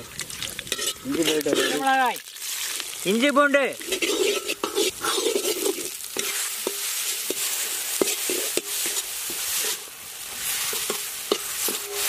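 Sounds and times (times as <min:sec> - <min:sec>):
vegetables sizzling in oil: 0:00.0 - 0:12.0
metal spatula scraping a pan: 0:00.6 - 0:02.1, 0:03.8 - 0:12.0.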